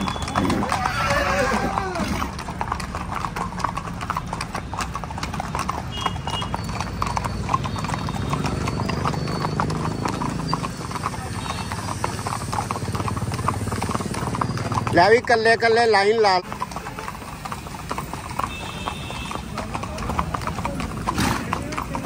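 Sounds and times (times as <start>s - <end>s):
horse hooves clip-clopping on road: 0.0s - 22.0s.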